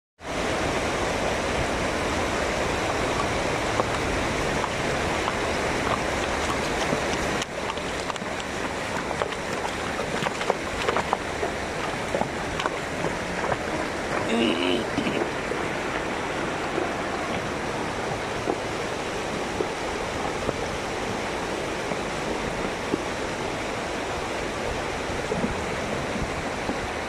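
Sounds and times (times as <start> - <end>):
river rushing over stones: 0.2 - 27.0
horse splashing through water: 1.3 - 27.0.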